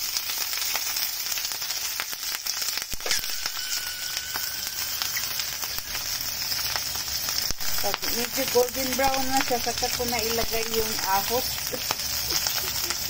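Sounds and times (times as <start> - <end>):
oil sizzling in a pan: 0.0 - 13.0
spitting oil crackling pops: 0.0 - 13.0.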